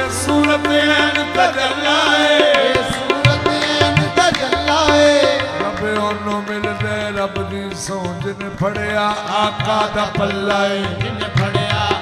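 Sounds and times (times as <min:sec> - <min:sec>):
harmonium chords: 0:00.0 - 0:12.0
man singing: 0:00.0 - 0:12.0.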